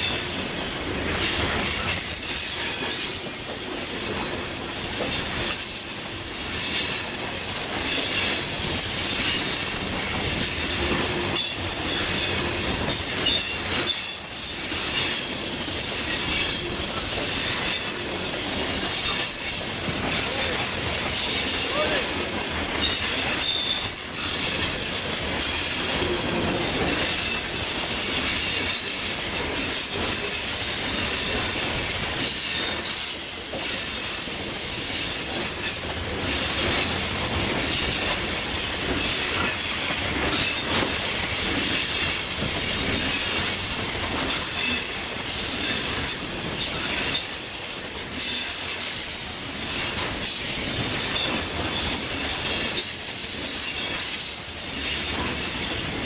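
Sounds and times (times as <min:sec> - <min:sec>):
train wheels clacking over rail joints: 0:00.0 - 0:56.0
high thin wheel squeals: 0:01.2 - 0:04.1, 0:07.6 - 0:10.8, 0:11.4 - 0:22.2, 0:22.8 - 0:25.7, 0:26.6 - 0:38.3, 0:40.3 - 0:55.8.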